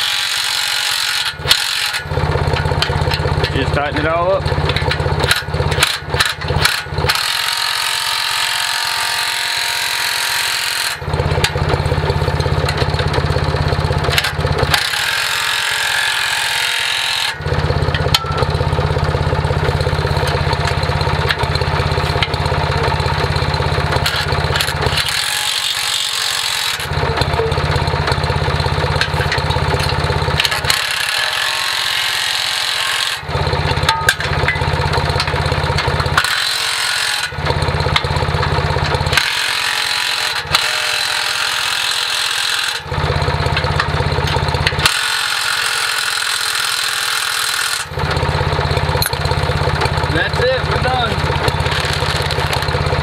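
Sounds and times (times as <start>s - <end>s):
impact driver running: 0.0s - 53.0s.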